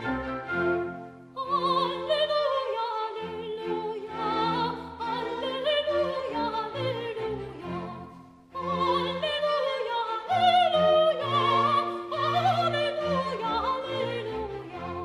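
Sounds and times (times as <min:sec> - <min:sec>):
operatic singing with vibrato: 0:00.0 - 0:15.0
orchestra playing: 0:00.0 - 0:15.0.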